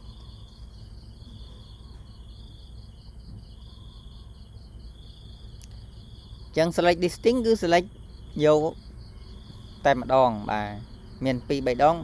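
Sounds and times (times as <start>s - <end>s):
insects chirping in trills: 0.0s - 12.0s
low steady hum: 0.0s - 12.0s.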